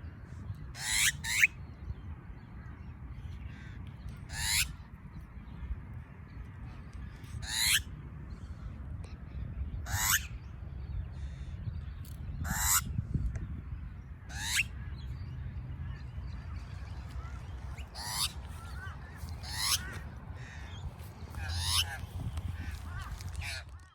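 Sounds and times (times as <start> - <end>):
steady low rumble: 1.6 - 23.9.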